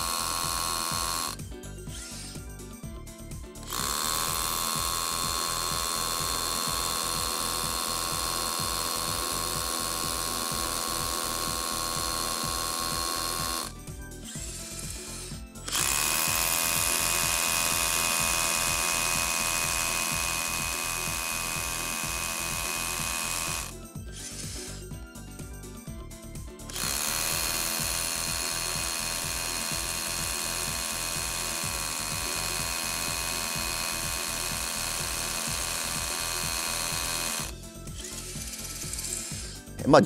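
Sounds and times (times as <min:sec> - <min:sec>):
hammer drill boring into concrete: 0:00.0 - 0:02.5, 0:03.6 - 0:25.0, 0:26.6 - 0:39.8.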